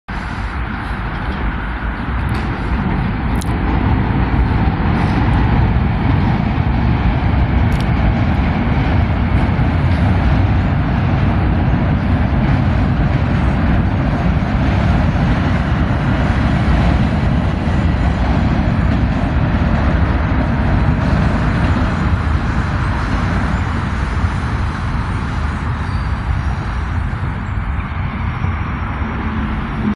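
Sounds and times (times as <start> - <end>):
train rumbling across bridge: 0.1 - 29.9.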